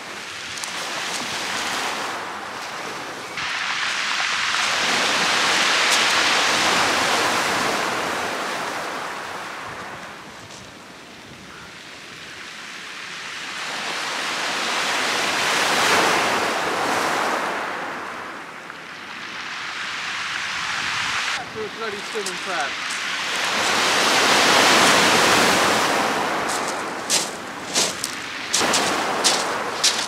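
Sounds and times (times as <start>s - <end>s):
waves breaking on shingle beach: 0.0s - 30.0s.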